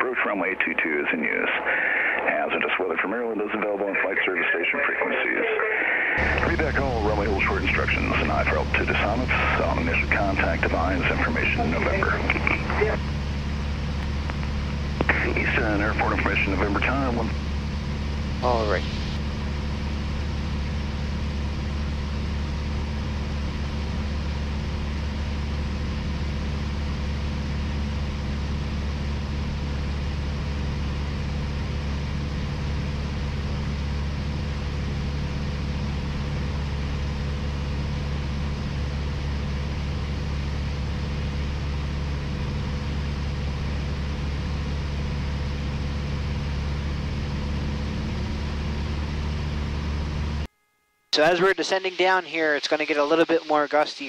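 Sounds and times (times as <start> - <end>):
aircraft engine droning: 0.0 - 50.5.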